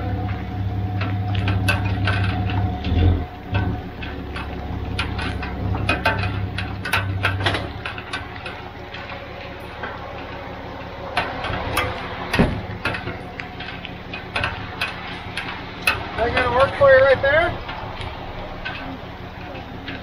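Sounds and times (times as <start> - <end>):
pickup engine humming: 0.0 - 20.0
sharp clicks and crunches: 0.1 - 20.0.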